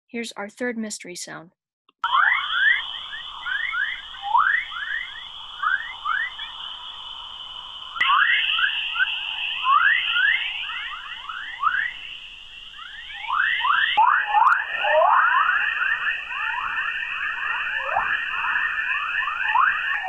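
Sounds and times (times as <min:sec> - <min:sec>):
steady high hiss: 0:02.1 - 0:20.0.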